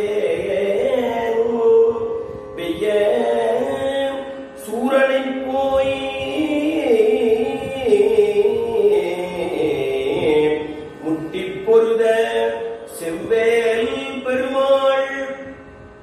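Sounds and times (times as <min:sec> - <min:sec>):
man singing a hymn: 0:00.0 - 0:15.6.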